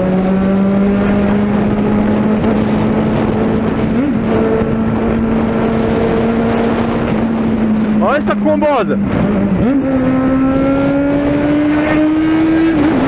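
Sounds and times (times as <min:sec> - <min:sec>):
motorcycle engine running: 0:00.0 - 0:13.0
wind rush on microphone: 0:00.0 - 0:13.0.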